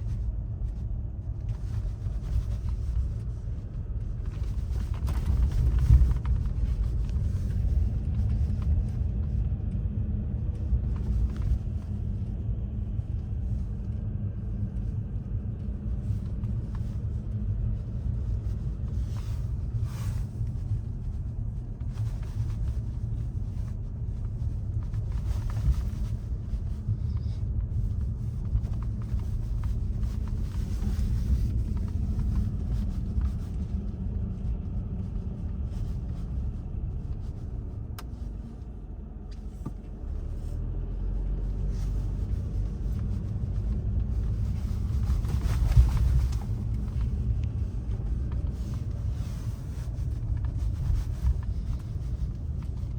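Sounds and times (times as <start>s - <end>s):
vehicle driving rumble: 0.0s - 52.9s.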